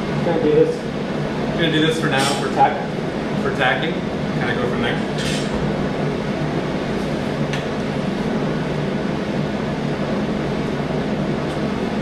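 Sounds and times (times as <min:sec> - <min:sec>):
machine hum with fan noise: 0:00.0 - 0:12.0.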